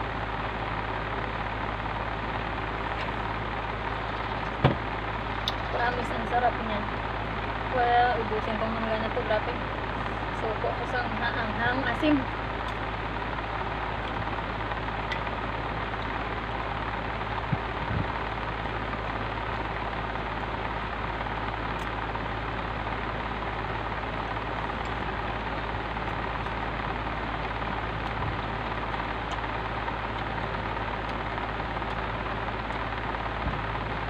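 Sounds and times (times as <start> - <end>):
mechanical drone: 0.0 - 34.0.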